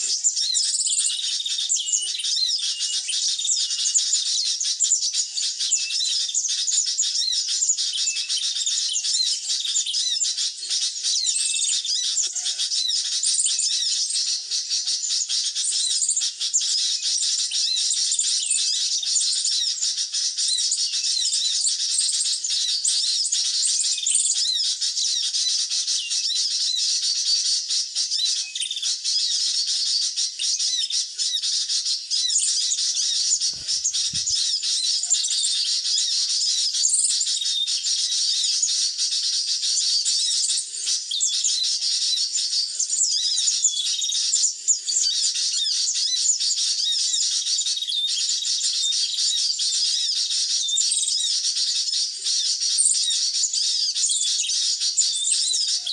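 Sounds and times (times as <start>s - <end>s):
birds chirping and twittering: 0.0s - 55.9s.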